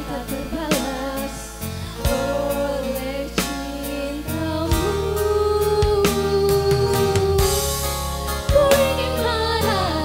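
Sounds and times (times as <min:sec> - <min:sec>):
song with singer and beat: 0:00.0 - 0:10.0.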